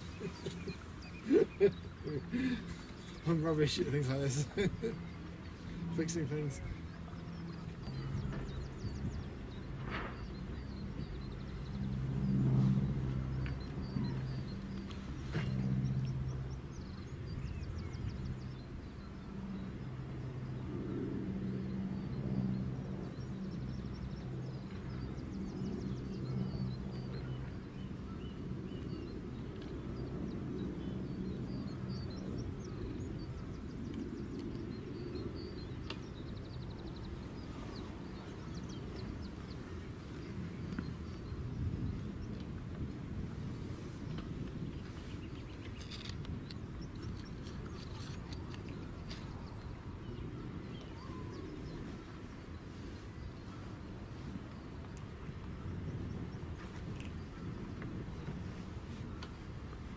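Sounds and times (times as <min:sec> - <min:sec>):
low engine hum: 0:00.0 - 0:52.1
small birds chirping: 0:00.0 - 0:59.9.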